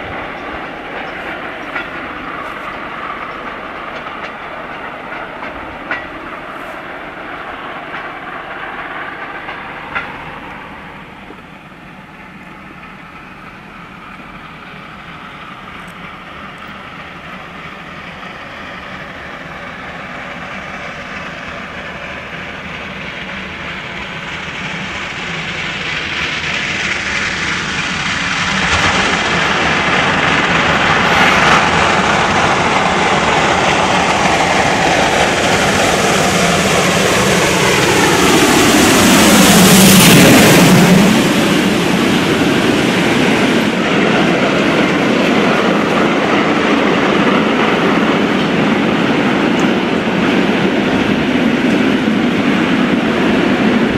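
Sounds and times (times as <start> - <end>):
steam locomotive exhaust: 0.0 - 53.9
train wheels clattering over rail joints: 0.0 - 53.9.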